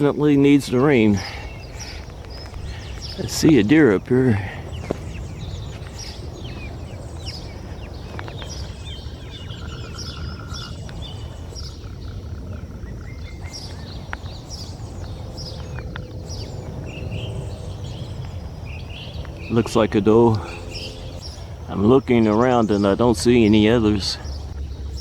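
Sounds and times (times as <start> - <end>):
bird trill: 0.0 - 25.0
songbirds chirping: 0.0 - 25.0.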